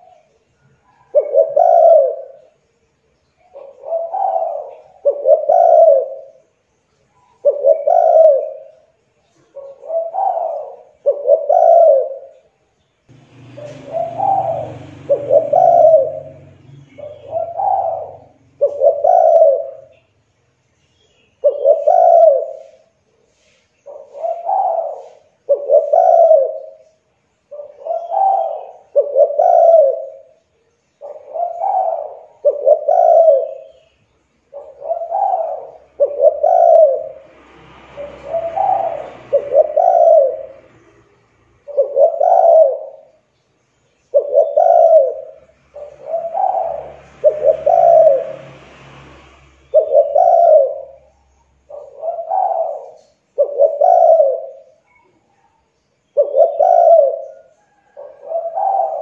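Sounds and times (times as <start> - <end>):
dove cooing: 0.0 - 2.6, 3.4 - 6.6, 7.2 - 20.1, 21.4 - 43.3, 44.0 - 48.6, 49.4 - 59.0.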